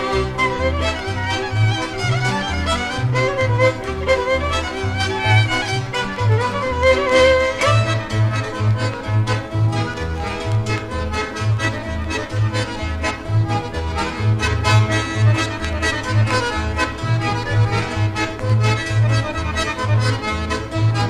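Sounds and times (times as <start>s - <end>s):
accordion melody: 0.0s - 21.0s
oom-pah bass: 0.0s - 21.0s.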